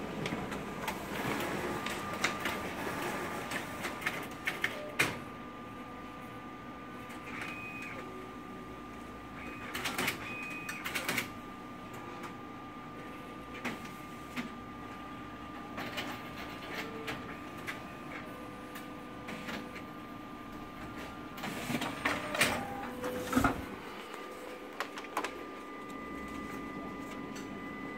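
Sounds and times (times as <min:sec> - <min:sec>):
copier humming: 0:00.0 - 0:27.9.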